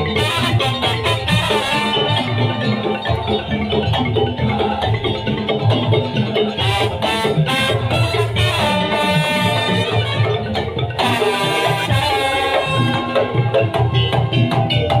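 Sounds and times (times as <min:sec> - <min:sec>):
ringing mallet percussion: 0:00.0 - 0:15.0
steady drum beat: 0:00.0 - 0:15.0.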